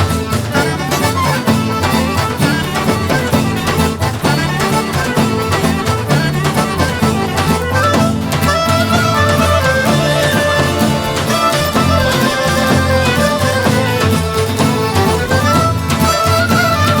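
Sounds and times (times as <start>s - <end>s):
folk dance music: 0.0s - 17.0s.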